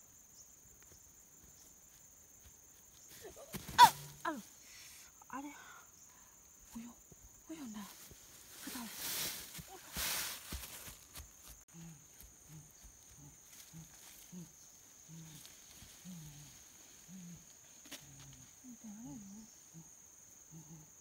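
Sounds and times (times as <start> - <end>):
high insect buzz: 0.0 - 21.0.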